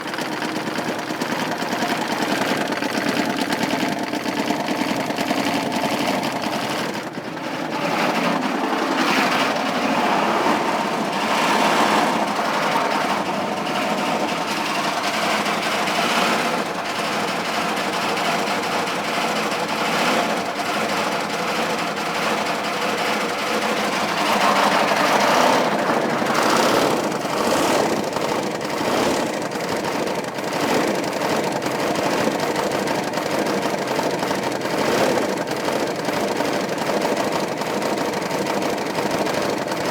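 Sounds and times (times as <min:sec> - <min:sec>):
diesel engine knocking and rattling: 0:00.0 - 0:39.9.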